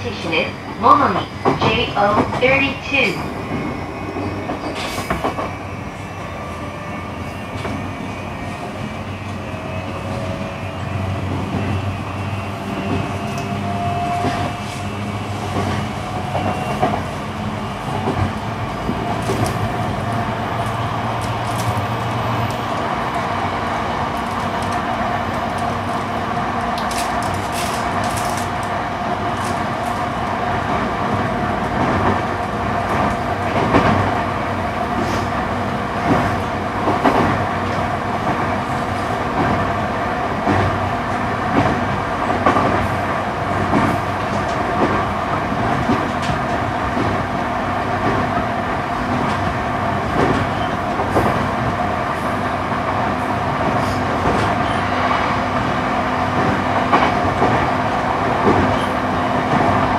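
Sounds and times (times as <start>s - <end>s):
train running gear hum: 0.0s - 59.9s.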